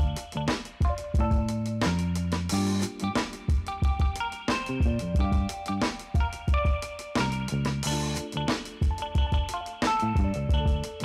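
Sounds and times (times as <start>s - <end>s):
band music with steady beat: 0.0s - 11.0s.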